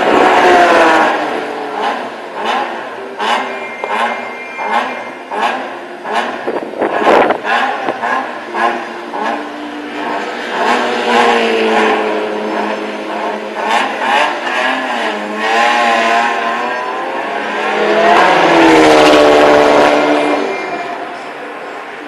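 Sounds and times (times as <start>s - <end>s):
loud engine: 0.0s - 22.0s
racing engines passing: 0.0s - 22.0s.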